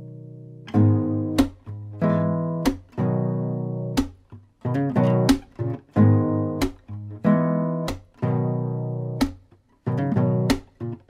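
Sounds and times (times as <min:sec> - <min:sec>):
strummed acoustic guitar chords: 0:00.0 - 0:11.0.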